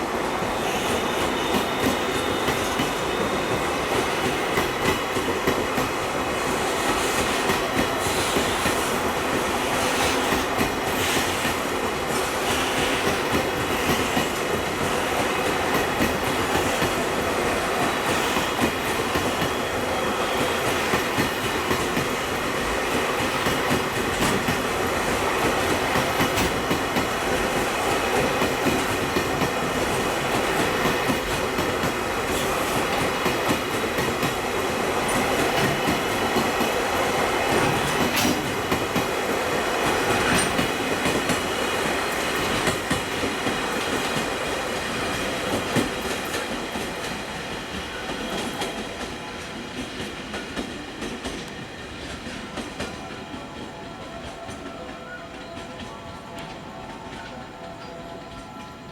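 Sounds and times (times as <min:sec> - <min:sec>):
freight train wheels clacking: 0:00.0 - 0:58.9.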